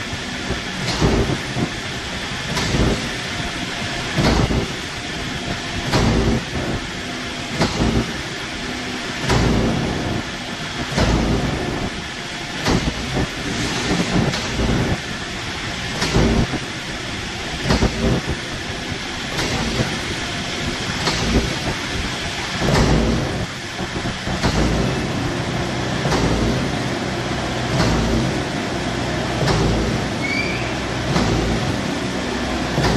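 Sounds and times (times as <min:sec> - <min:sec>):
pump machine hum: 0:00.0 - 0:32.9.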